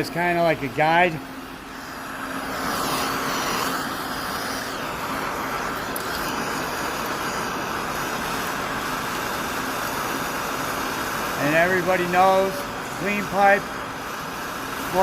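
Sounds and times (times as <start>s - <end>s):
soldering torch flame hissing: 0.0s - 15.0s.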